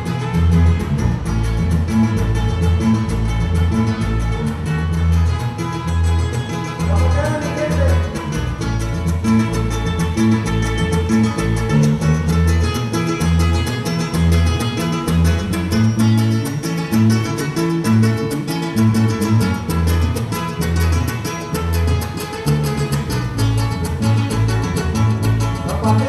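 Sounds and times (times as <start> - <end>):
live band playing latin dance music: 0.0 - 26.0.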